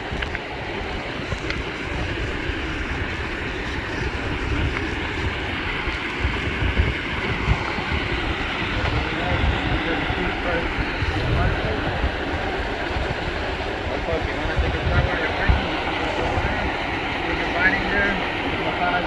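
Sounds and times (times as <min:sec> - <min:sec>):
waterfall roaring: 0:00.0 - 0:19.0
wind buffeting microphone: 0:00.0 - 0:19.0.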